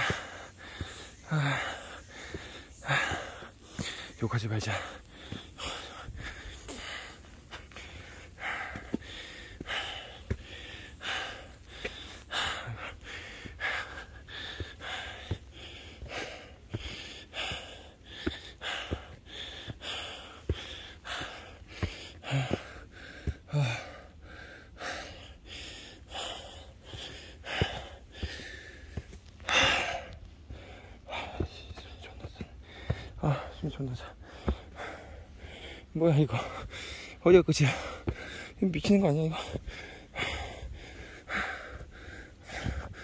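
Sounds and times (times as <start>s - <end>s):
man breathing hard: 0.0s - 43.0s.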